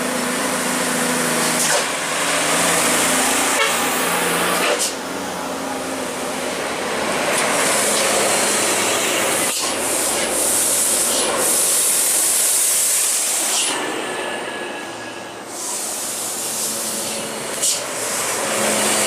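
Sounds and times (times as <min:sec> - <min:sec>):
large truck passing: 0:00.0 - 0:19.0.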